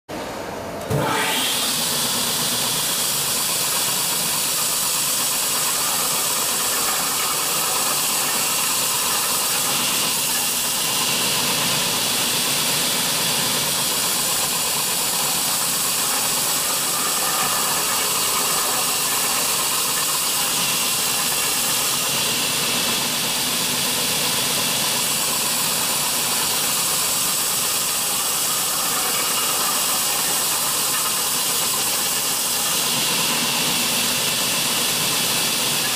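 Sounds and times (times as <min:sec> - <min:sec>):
belt sanding machine sanding wood: 0:01.4 - 0:35.9.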